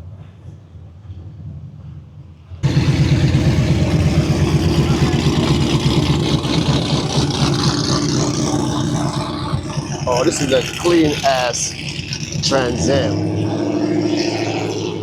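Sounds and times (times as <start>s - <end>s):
high-performance car engine running: 2.6s - 15.0s.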